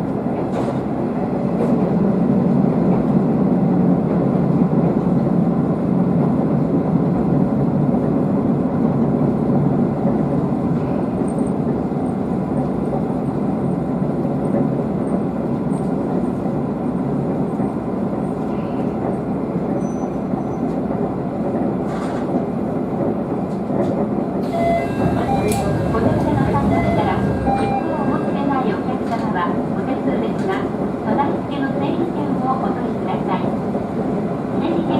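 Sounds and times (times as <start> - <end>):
railcar engine and wheels rumbling: 0.0 - 34.9.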